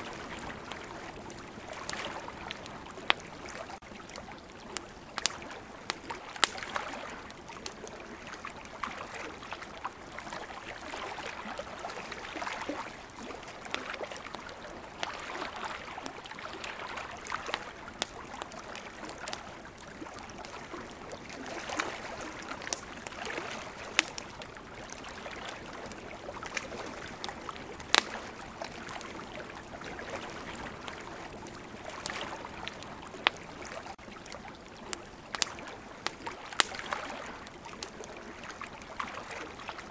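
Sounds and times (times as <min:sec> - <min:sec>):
ocean waves: 0:00.0 - 0:03.8, 0:04.6 - 0:34.3, 0:35.4 - 0:39.9
campfire crackling and popping: 0:00.0 - 0:39.9.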